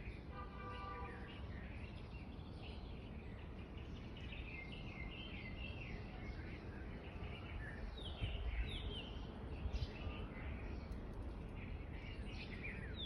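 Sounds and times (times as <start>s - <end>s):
small birds chirping: 1.1s - 13.0s.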